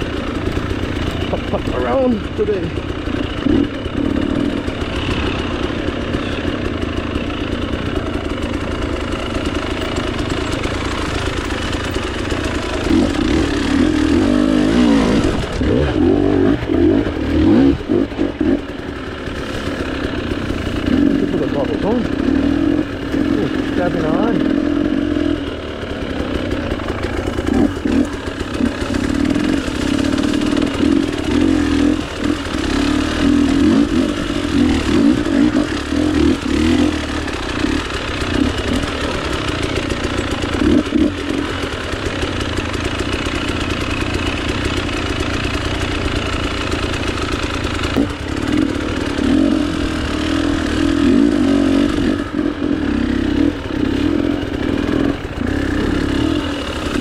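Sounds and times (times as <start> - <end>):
clatter: 0.0 - 57.0
dirt bike engine revving: 0.0 - 57.0.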